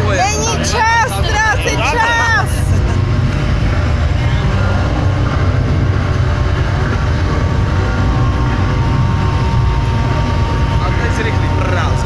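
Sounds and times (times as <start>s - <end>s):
loud low rumble: 0.0s - 12.0s.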